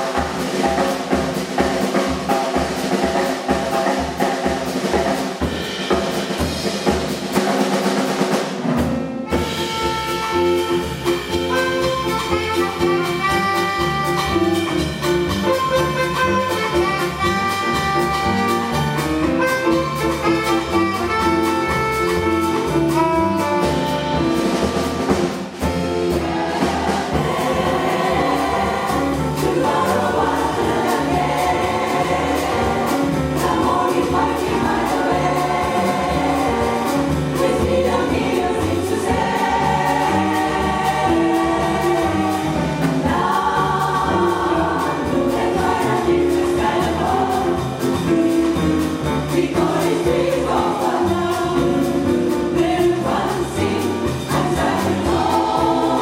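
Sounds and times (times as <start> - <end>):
jazz chorus singing in harmony: 0.0 - 56.0
small jazz band: 0.0 - 56.0.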